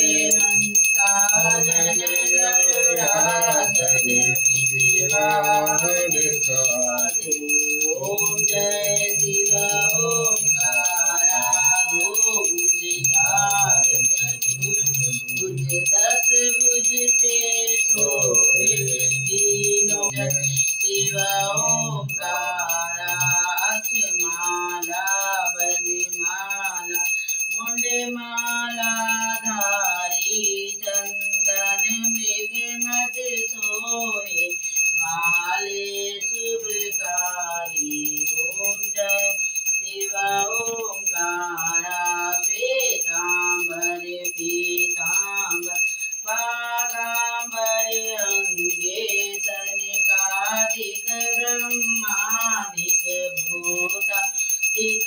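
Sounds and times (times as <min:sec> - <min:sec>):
bell ringing rapidly: 0:00.0 - 0:55.0
person singing devotional song: 0:00.0 - 0:55.0.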